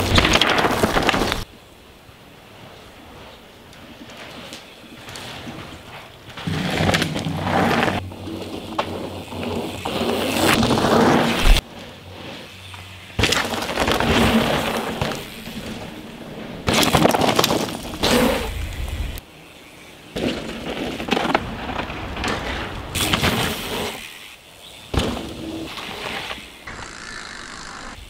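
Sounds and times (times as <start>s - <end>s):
bike tyres skidding on dirt: 0.0s - 28.0s.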